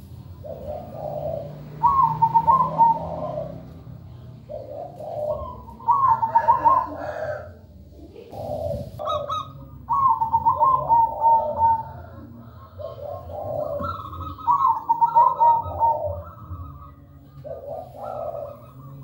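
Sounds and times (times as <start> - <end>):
doves cooing: 0.0 - 19.0.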